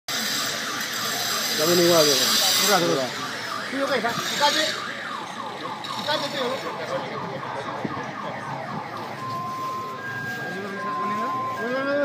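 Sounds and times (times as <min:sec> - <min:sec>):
street traffic noise: 0:00.1 - 0:12.0
electronic siren yelping: 0:00.4 - 0:12.0.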